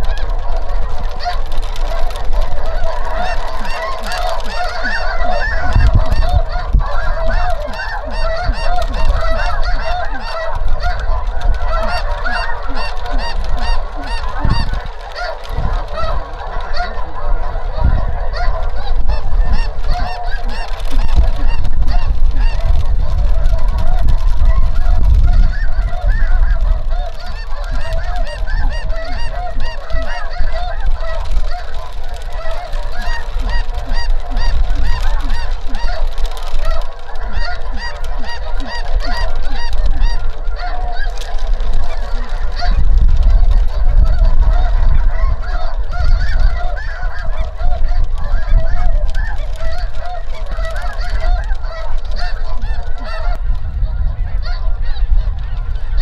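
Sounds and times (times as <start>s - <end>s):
flock of geese honking: 0.0s - 56.0s.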